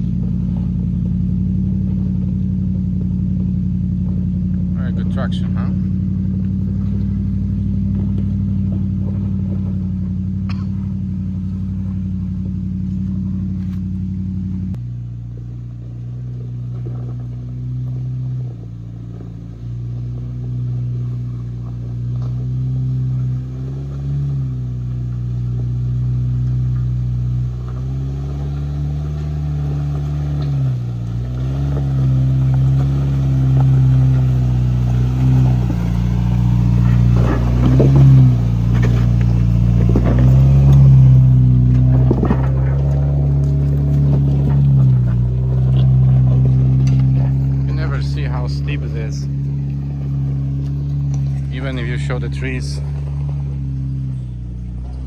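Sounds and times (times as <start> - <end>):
off-road vehicle engine under load: 0.0 - 55.0.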